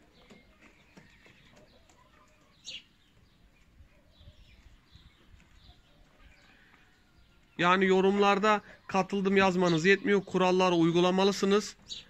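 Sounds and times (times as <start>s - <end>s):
faint chicken sounds: 0.0s - 12.0s
high falling bird chirp: 0.0s - 12.0s.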